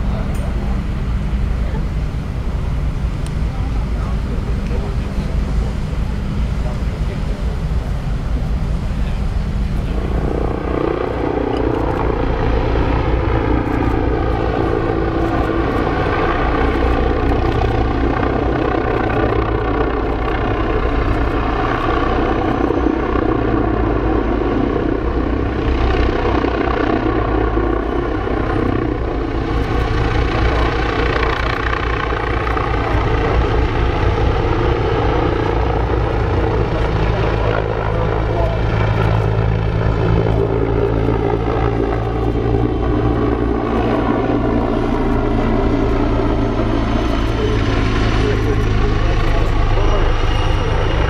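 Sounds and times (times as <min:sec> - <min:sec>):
helicopter rotor and turbine drone: 0:00.0 - 0:51.0.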